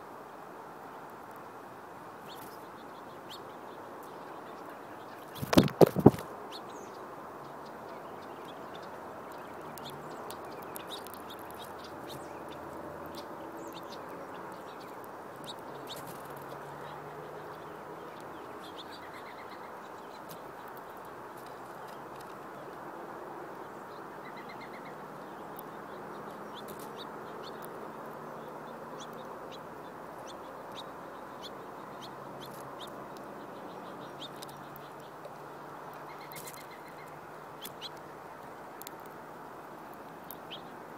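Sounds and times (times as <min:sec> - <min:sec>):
birds chirping and trilling: 0:02.2 - 0:40.9.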